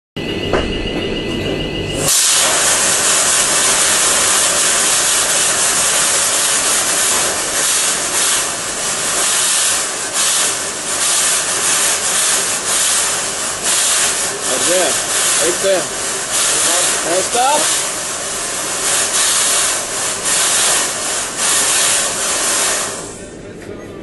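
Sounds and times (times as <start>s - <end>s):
fog jetting out hiss: 2.0s - 23.2s.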